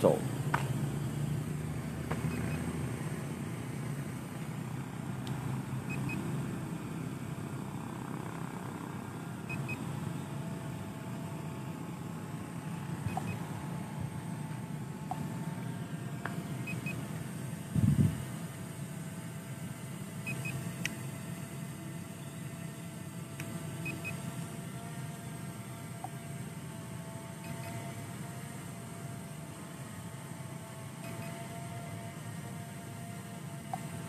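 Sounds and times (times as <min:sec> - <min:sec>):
faint hum: 0:00.0 - 0:34.0
outdoor rumble and hiss: 0:00.0 - 0:34.0.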